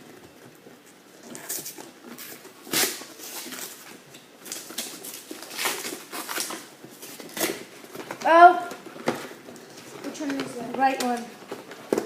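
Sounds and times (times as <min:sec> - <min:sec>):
cardboard boxes rustling and scraping: 0:00.0 - 0:12.0.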